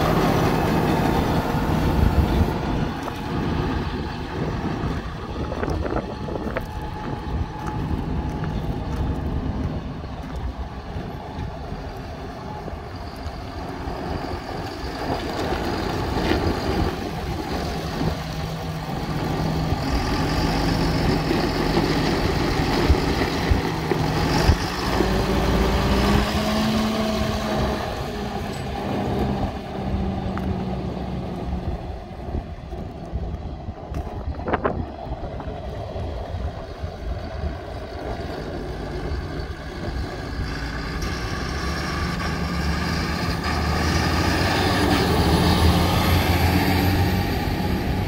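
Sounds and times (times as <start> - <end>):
tractor diesel engine passing: 0.0 - 48.0.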